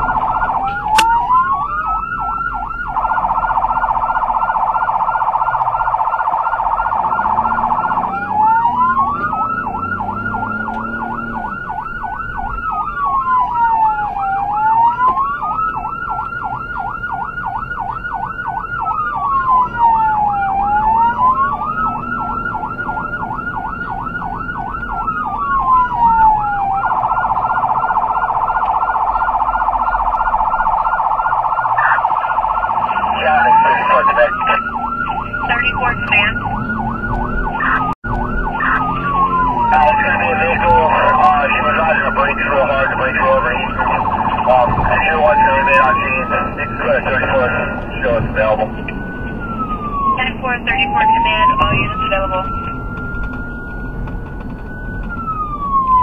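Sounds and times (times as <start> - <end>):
emergency vehicle siren: 0.0 - 56.0.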